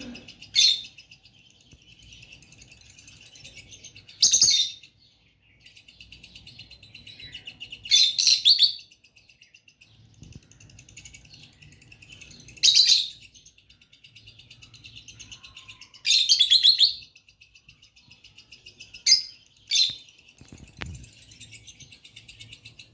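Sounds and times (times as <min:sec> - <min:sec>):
lovebirds twittering: 0:00.0 - 0:22.9
shrill bird chirps: 0:00.0 - 0:22.9.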